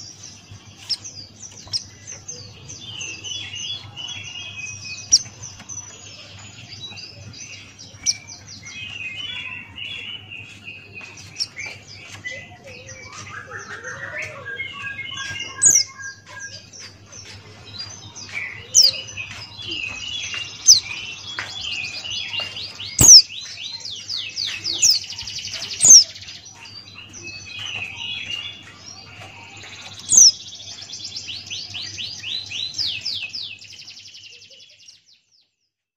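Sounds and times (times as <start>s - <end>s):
bird twittering and trills: 0.0s - 35.7s.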